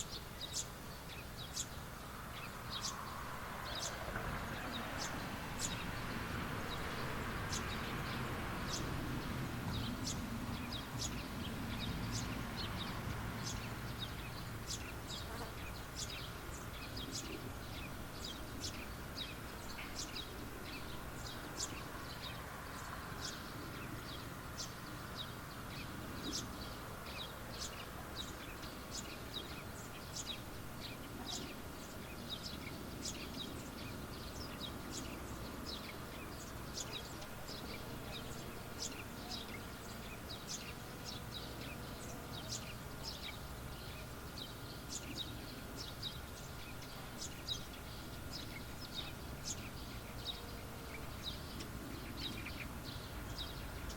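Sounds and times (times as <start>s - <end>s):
background hum: 0.0s - 53.9s
birds chirping: 0.0s - 53.9s.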